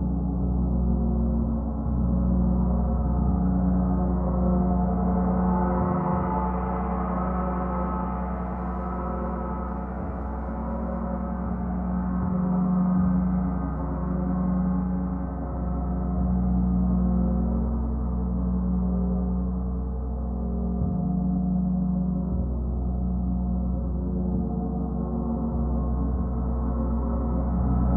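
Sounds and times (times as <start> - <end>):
low hum: 0.0 - 27.9.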